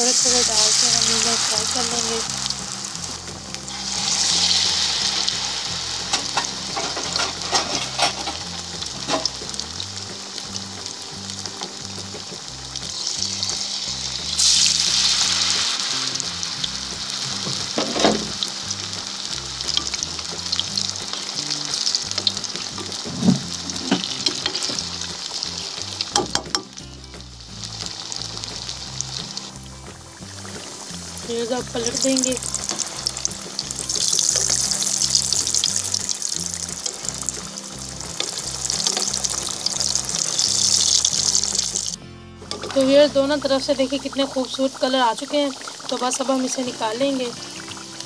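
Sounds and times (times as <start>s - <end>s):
oil popping and spattering: 0.0s - 42.8s
food deep-frying in hot oil: 0.0s - 48.0s.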